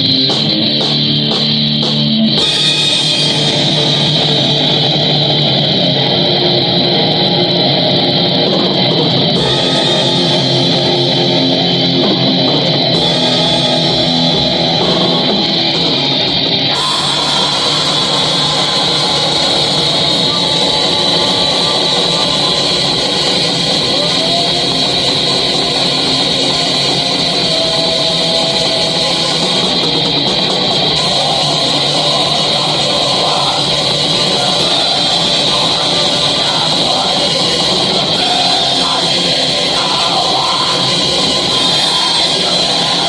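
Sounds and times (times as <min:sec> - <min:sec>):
distorted electric guitar: 0:00.0 - 0:43.0
metal band playing: 0:00.0 - 0:43.0.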